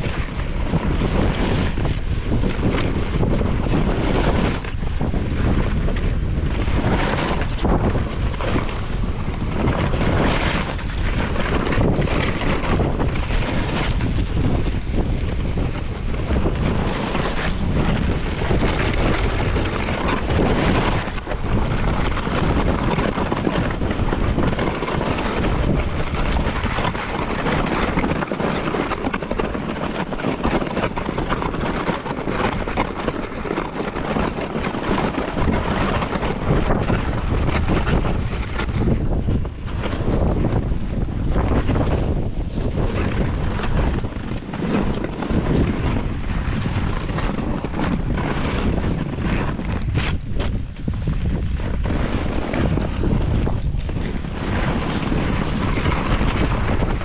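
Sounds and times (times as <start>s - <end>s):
snowboard scraping snow: 0.0s - 57.0s
wind rushing over microphone: 0.0s - 57.0s.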